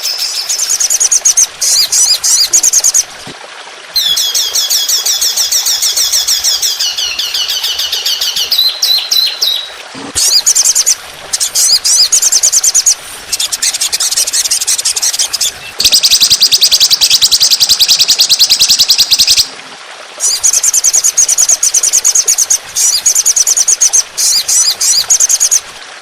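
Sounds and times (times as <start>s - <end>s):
songbird rapid chirps: 4.0s - 19.5s, 20.2s - 25.7s.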